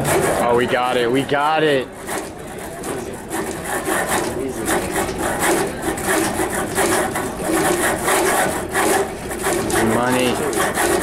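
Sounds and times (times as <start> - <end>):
wooden model rattling and creaking: 0.0 - 11.0.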